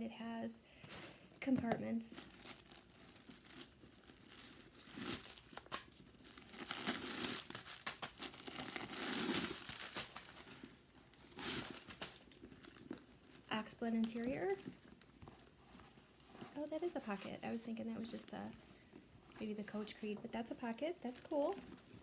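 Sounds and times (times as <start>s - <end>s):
leather handbag crinkling and rustling: 1.6s - 22.0s.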